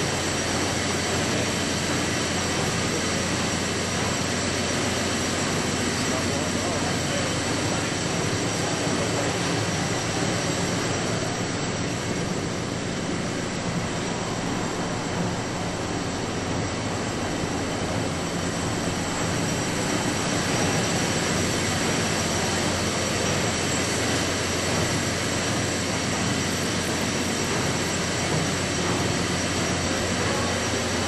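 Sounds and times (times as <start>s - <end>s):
steam engine mechanical din: 0.0s - 31.0s.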